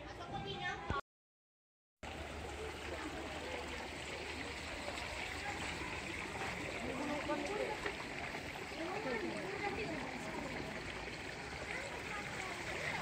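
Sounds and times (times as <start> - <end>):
water trickling into a pond: 2.0 - 13.0.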